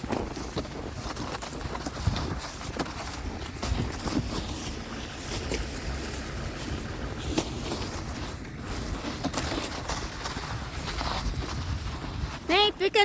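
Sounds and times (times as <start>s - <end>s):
footsteps crunching in snow: 0.0s - 13.0s
wind rumble on microphone: 0.0s - 13.0s.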